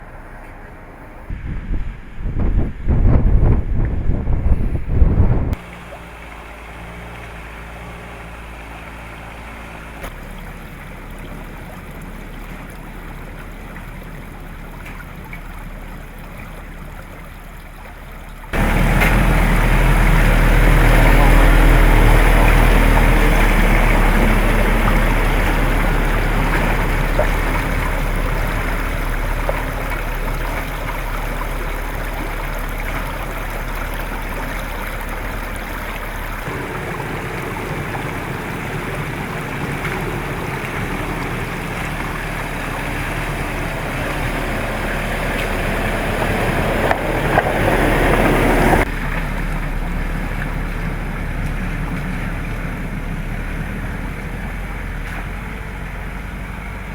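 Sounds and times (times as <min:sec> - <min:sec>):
diesel engine running: 0:00.0 - 0:56.9
water rushing and splashing: 0:00.0 - 0:56.9.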